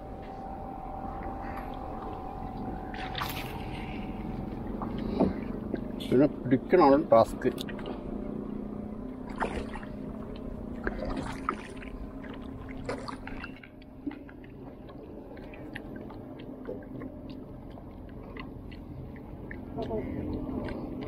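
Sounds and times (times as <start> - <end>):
water splashing around canoe: 0.3 - 21.0.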